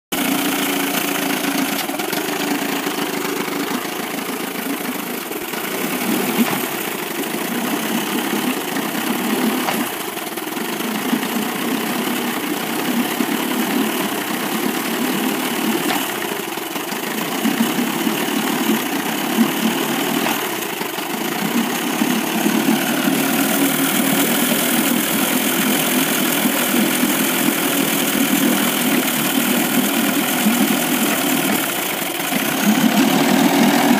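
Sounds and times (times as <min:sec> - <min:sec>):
outboard motor misfiring: 0:00.1 - 0:33.9.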